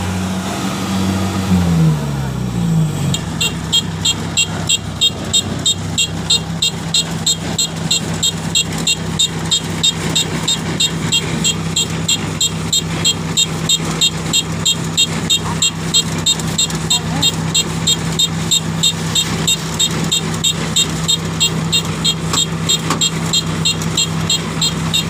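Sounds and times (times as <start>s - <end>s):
diesel engine running: 0.0s - 25.0s
warning buzzer beeping rapidly: 3.1s - 25.0s.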